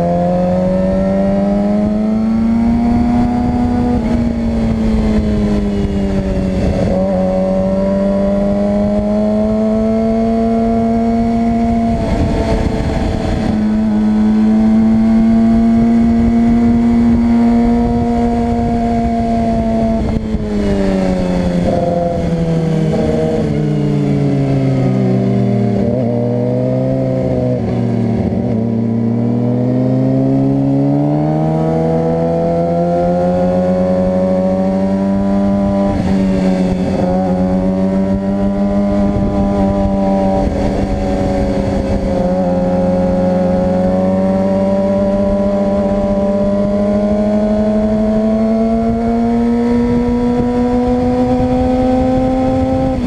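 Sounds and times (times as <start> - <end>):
sport bike engine revving: 0.0 - 53.0.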